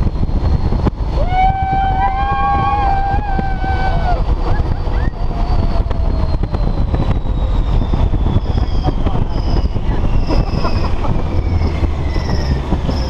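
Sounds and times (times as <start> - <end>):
ride vehicle rumbling and whining: 0.0 - 13.0
wind rushing over microphone: 0.0 - 13.0.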